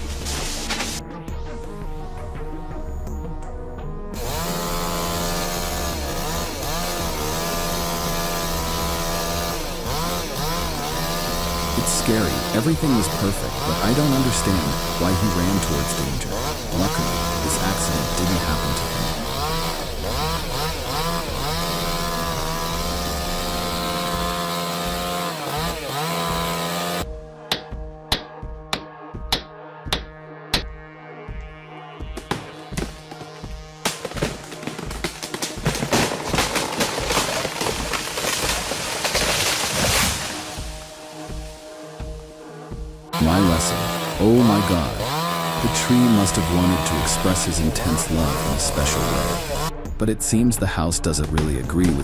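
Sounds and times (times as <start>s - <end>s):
chainsaw engine at high revs: 0.0s - 1.0s, 4.1s - 27.2s, 32.1s - 49.8s, 51.3s - 52.0s
background music: 0.0s - 52.0s.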